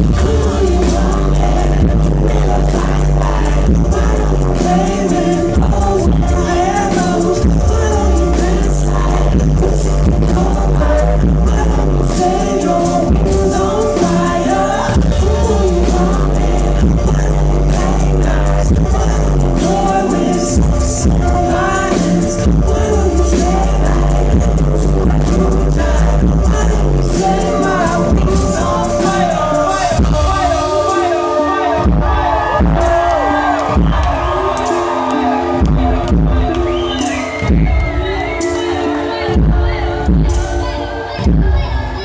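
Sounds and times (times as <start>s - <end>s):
bass line: 0.0s - 42.0s
man singing lead vocal: 0.0s - 42.0s.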